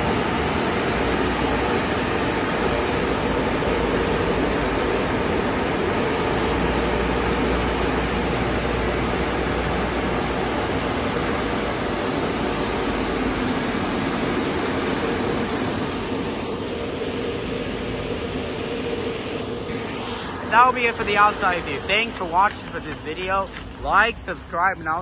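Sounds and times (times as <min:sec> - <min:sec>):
electric dryer blowers rushing air: 0:00.0 - 0:25.0.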